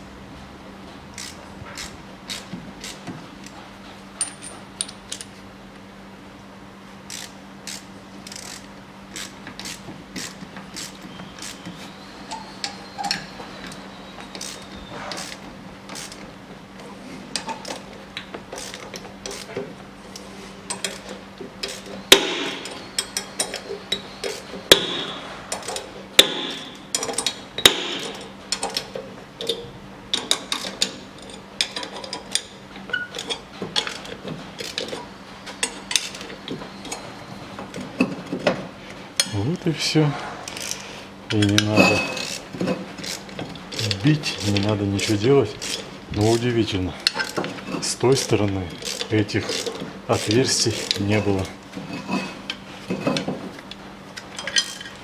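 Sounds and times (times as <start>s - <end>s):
wrench and bolt clicks: 1.1s - 3.6s, 4.2s - 5.4s, 7.1s - 11.6s, 12.3s - 16.2s, 17.3s - 19.6s, 20.7s - 35.0s, 35.6s - 37.0s, 40.5s - 55.0s.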